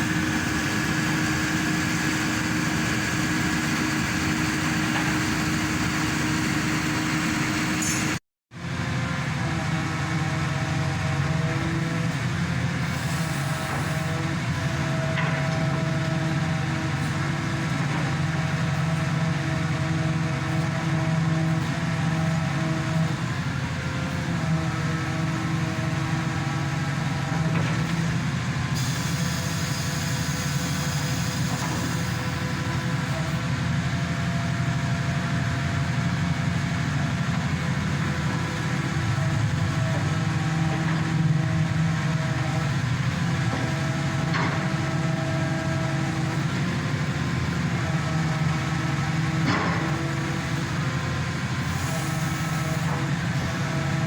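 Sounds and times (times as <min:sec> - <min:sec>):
diesel engine and hydraulic pump: 0:00.0 - 0:54.0.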